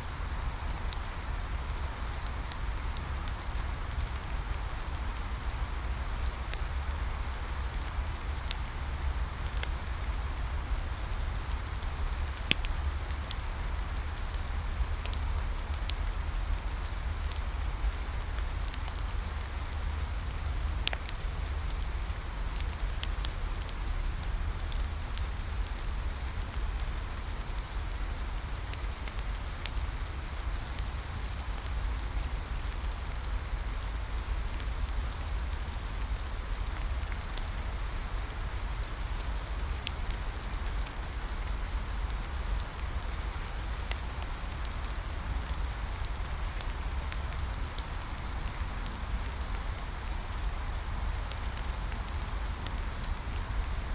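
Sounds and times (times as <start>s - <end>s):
rain falling: 0.0s - 53.9s
bonfire crackling and popping: 0.1s - 53.9s.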